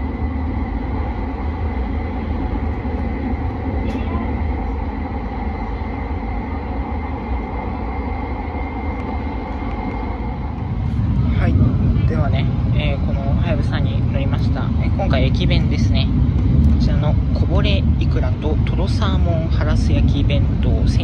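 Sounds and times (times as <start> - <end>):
faint high whine: 0.0 - 21.0
train interior rumble: 0.0 - 21.0.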